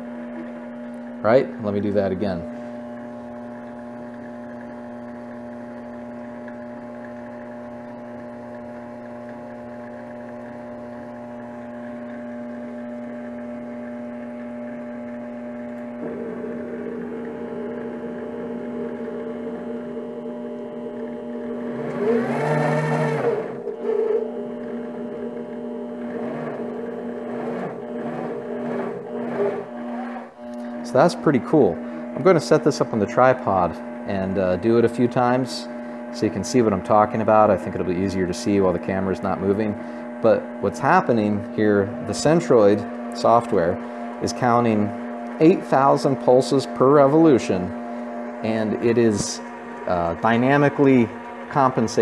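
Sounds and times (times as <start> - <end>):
carriage feed buzzing whine: 0.0 - 52.0
lathe motor hum and whine: 0.0 - 52.0.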